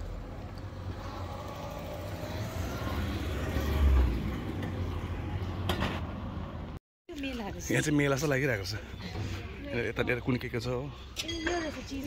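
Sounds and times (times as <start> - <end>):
town street ambience rumble: 0.0 - 12.0.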